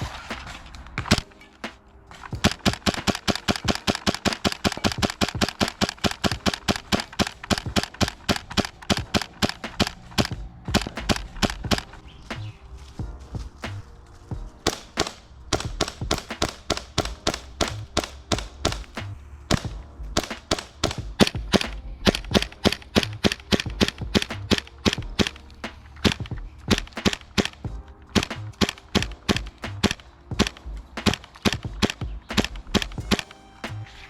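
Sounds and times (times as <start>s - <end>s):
airsoft rifle shots popping: 0.0s - 12.6s, 14.6s - 27.6s, 28.2s - 34.0s.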